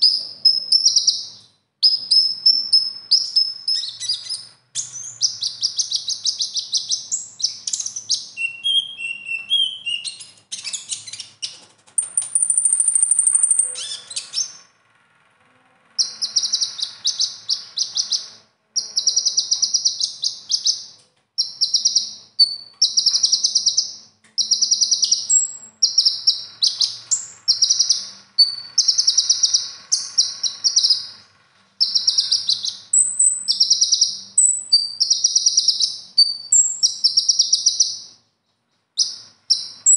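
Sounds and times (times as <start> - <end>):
bird high chattering trills: 2.0 - 14.9, 15.9 - 38.1.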